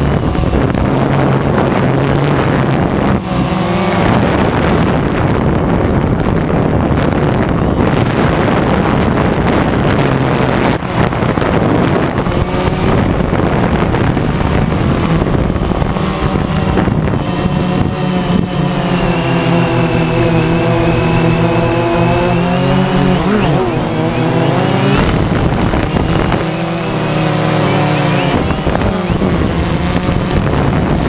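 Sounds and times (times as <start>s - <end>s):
drone propellers buzzing: 0.0s - 31.0s
wind noise on microphone: 0.0s - 31.0s.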